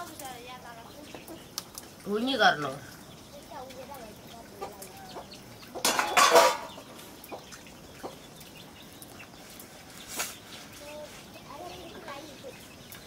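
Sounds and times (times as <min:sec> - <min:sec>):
metal pots washed in water: 0:00.0 - 0:13.0.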